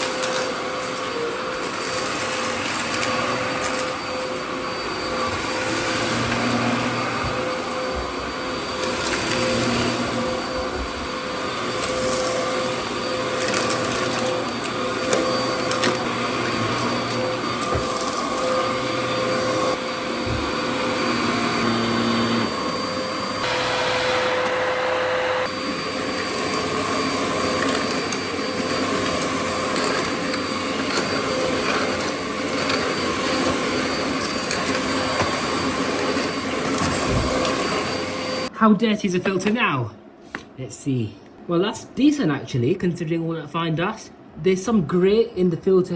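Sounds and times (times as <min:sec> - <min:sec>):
vacuum cleaner running: 0:00.0 - 0:38.5.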